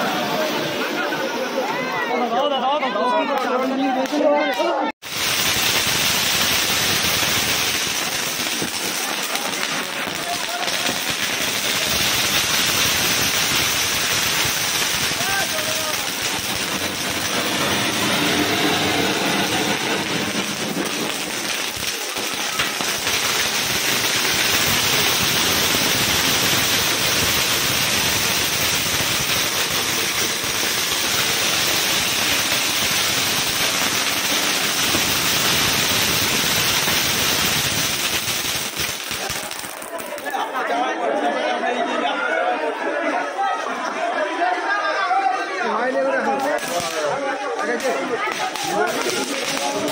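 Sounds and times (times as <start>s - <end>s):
fireworks fountain hissing: 0.0s - 4.3s, 4.9s - 41.1s, 44.1s - 49.9s.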